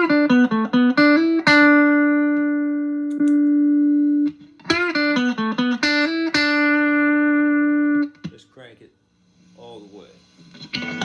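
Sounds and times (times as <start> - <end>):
electric guitar through amp: 0.0 - 8.3, 10.4 - 11.0.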